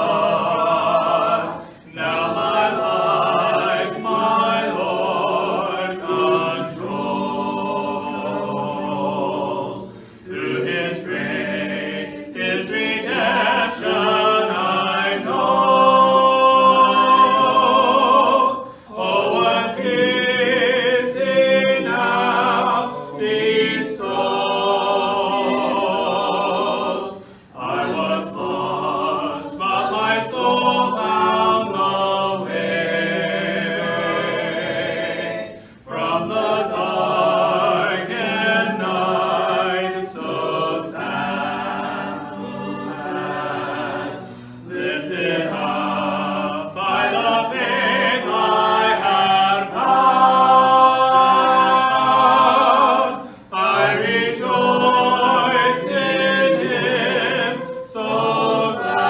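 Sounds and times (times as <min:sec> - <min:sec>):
group singing hymn a cappella: 0:00.0 - 0:59.0.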